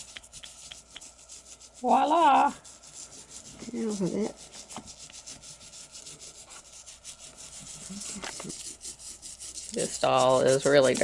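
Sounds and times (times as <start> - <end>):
toothbrush scrubbing plastic: 0.0 - 11.0.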